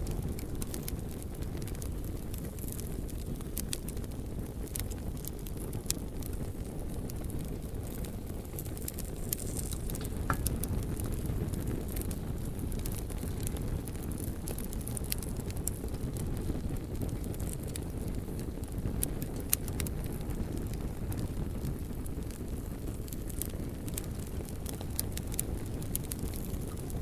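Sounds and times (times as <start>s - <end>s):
fire crackling and popping: 0.0s - 27.0s
fire flames rumbling: 0.0s - 27.0s.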